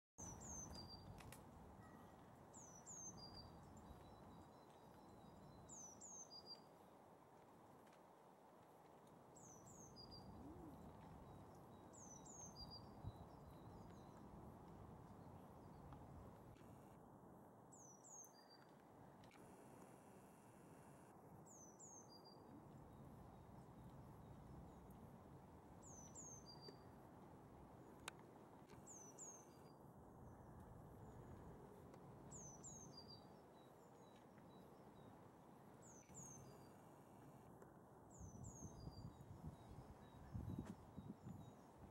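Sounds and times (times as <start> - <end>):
small bird song: 0.2 - 7.1, 9.3 - 16.2, 17.7 - 18.8, 21.4 - 41.9
outdoor background noise: 0.2 - 41.9.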